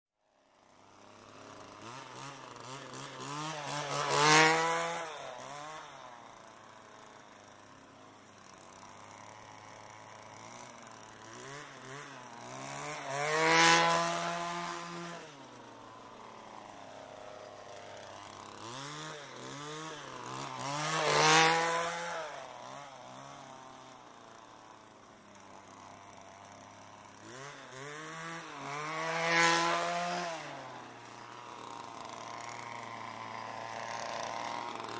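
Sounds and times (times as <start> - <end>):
string trimmer revving: 0.3 - 34.9.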